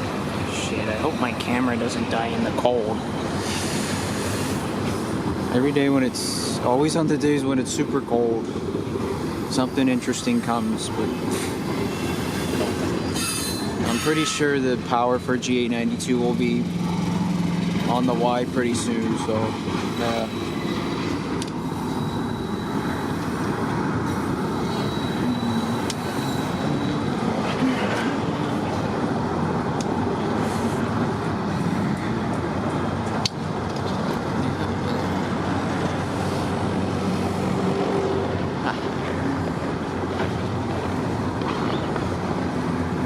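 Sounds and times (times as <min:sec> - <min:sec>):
train wheels rolling on rails: 0:00.0 - 0:43.0.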